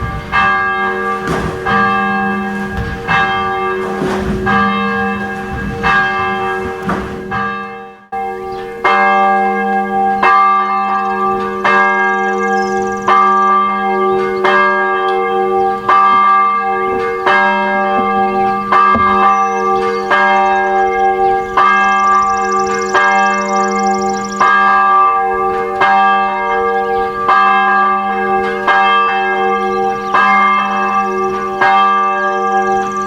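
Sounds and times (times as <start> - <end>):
church bell ringing: 0.0 - 33.0.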